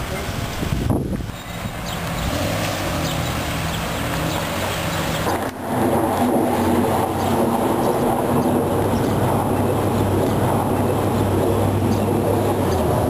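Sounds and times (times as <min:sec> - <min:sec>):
vehicle engine droning: 0:01.2 - 0:13.0.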